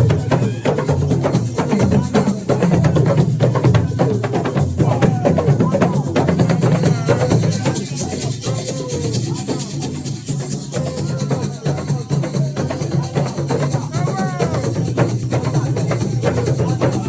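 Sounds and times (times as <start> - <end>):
drums: 0.0 - 17.0
voices: 0.0 - 17.0.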